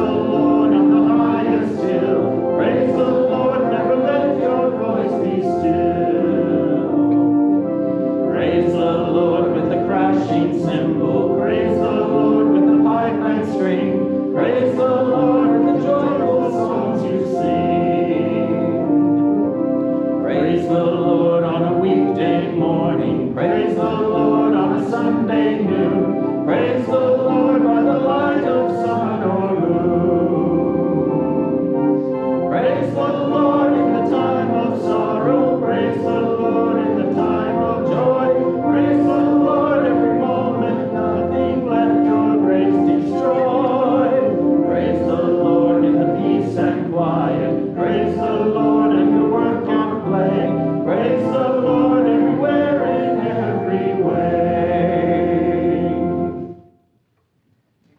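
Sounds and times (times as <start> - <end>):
congregation singing a hymn: 0.0 - 56.7
instrumental accompaniment: 0.0 - 56.8.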